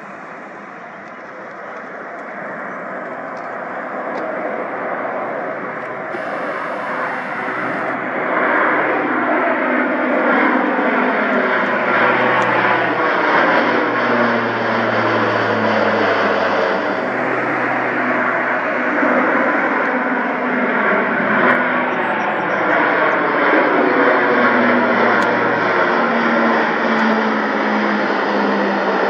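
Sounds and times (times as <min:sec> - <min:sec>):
aircraft engines passing: 0:00.0 - 0:29.0.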